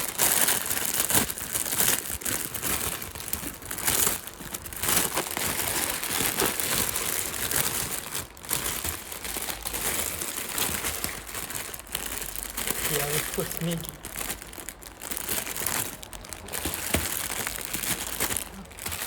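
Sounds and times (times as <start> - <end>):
plastic wrapping crinkling: 0.0 - 19.0.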